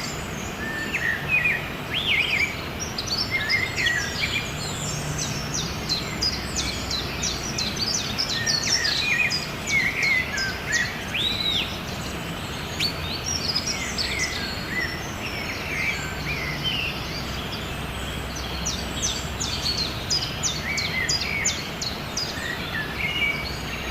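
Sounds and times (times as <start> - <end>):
small birds chirping: 0.0 - 23.9
steady background hiss: 0.0 - 23.9.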